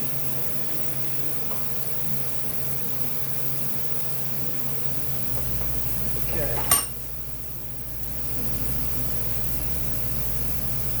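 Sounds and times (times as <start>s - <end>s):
machine humming with hiss: 0.0s - 11.0s.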